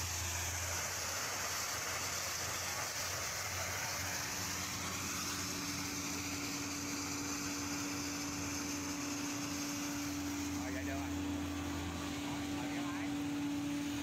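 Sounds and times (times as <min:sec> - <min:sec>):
pneumatic conveyor air rushing: 0:00.0 - 0:14.0.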